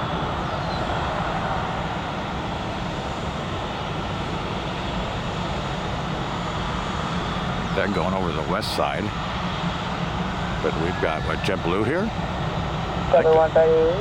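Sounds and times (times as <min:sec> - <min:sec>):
jet airliner engines running: 0:00.0 - 0:14.0.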